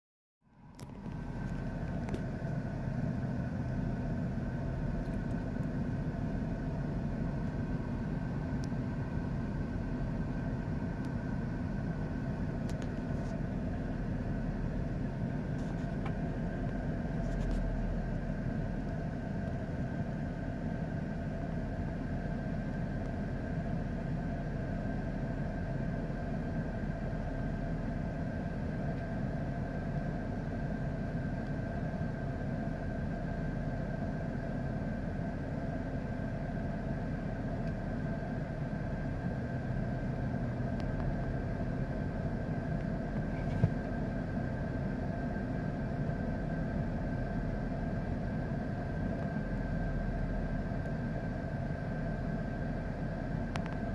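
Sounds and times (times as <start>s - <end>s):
car engine idling: 0.5s - 53.9s.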